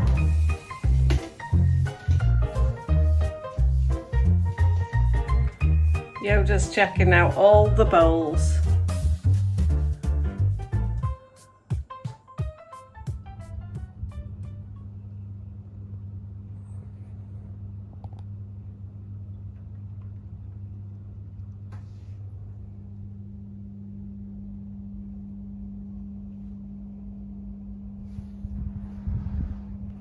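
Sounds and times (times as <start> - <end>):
low electrical hum: 0.0 - 11.0, 13.2 - 30.0.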